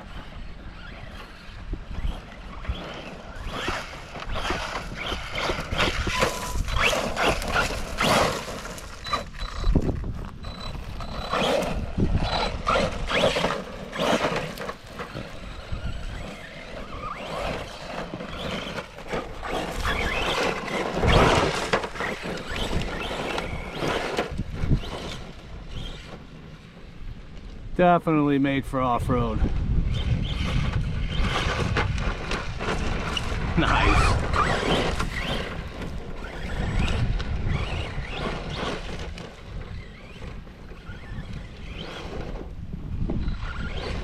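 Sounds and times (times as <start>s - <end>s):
rc truck motor revving in bursts: 0.0s - 27.1s, 29.4s - 44.0s
wind buffeting microphone: 0.0s - 44.0s.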